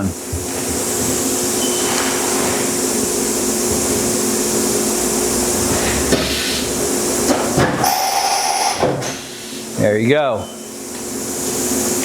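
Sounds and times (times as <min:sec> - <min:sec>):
machine humming and hissing: 0:00.0 - 0:12.0.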